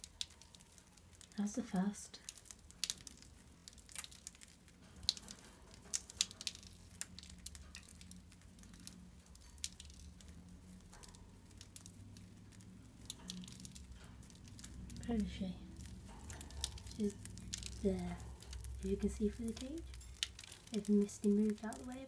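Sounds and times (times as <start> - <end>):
bird pecking seeds: 0.0 - 22.0
low steady hum: 0.0 - 22.0.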